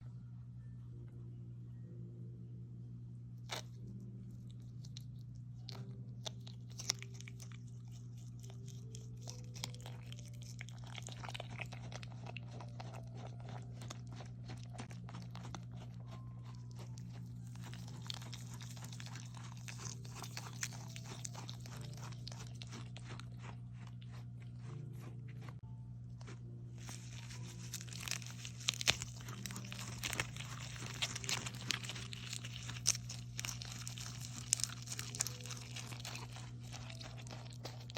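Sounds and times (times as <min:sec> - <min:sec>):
steady low hum: 0:00.0 - 0:37.9
animal chewing crunchy snacks: 0:03.4 - 0:37.9.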